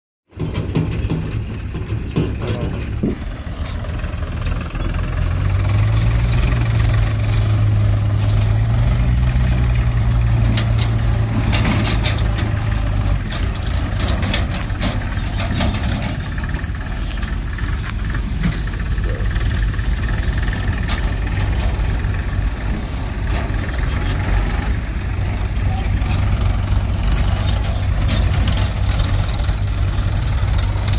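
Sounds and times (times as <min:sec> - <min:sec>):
clanks: 0:00.3 - 0:30.9
tractor diesel engine running: 0:00.3 - 0:30.9.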